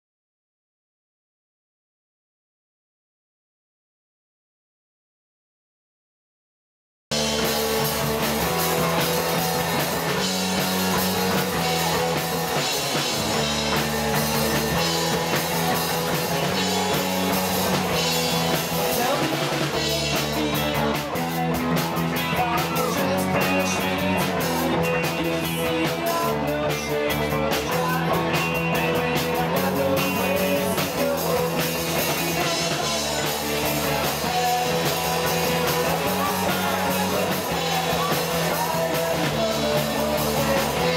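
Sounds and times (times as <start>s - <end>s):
live rock band playing: 7.1s - 40.9s.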